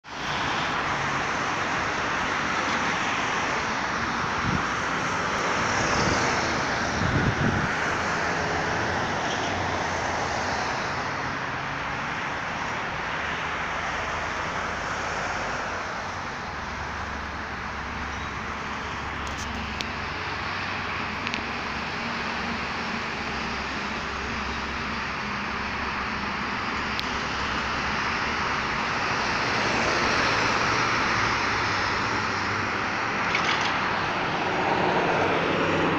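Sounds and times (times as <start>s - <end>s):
road traffic: 0.0s - 35.9s.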